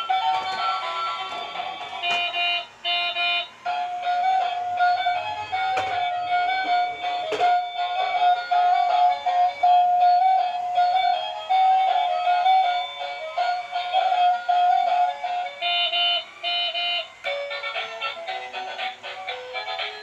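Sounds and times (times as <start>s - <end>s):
toy playing electronic tune: 0.0s - 20.0s.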